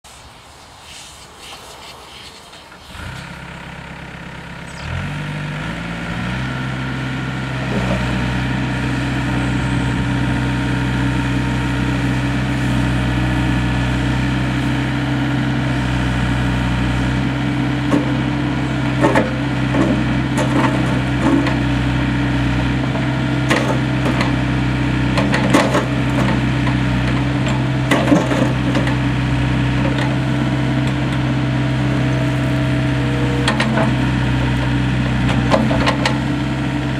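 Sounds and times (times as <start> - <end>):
mini excavator diesel engine running: 2.6 - 36.9.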